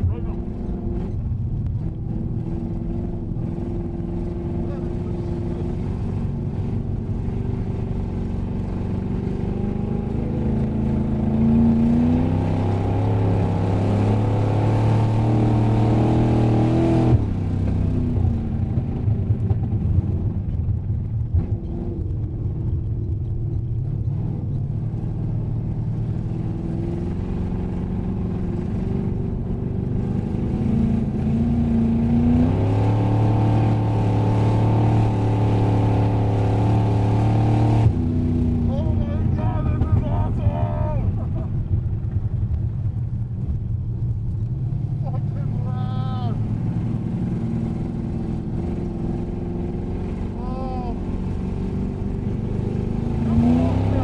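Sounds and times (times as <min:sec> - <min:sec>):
race car engine revving: 0:00.0 - 0:20.3, 0:21.2 - 0:42.1, 0:44.4 - 0:54.0.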